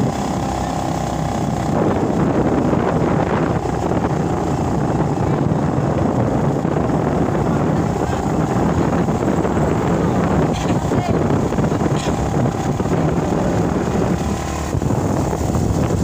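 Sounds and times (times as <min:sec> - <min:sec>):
motorcycle running: 0:00.0 - 0:16.0
wind rushing over microphone: 0:00.0 - 0:16.0.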